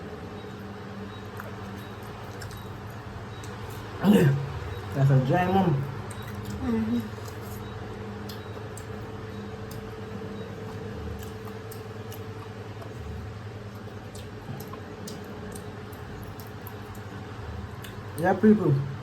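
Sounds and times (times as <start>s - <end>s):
steady low hum: 0.0s - 19.0s
faint chewing and mouth clicks: 0.5s - 4.0s, 5.8s - 18.3s.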